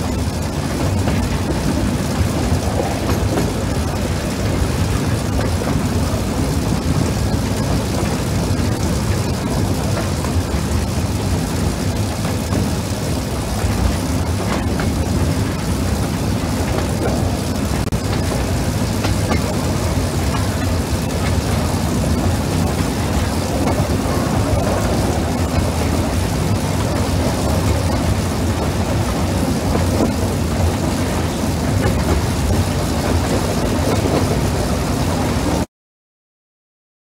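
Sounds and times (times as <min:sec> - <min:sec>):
train wheels rumbling on rails: 0:00.0 - 0:35.7.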